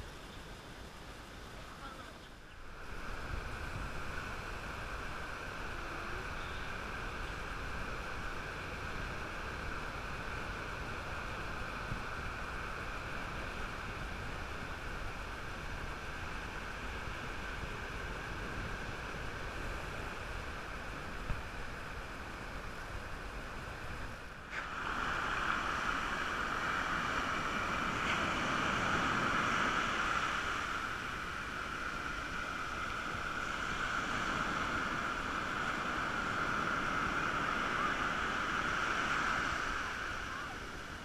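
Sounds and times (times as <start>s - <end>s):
ocean surf breaking on beach: 0.0s - 41.0s.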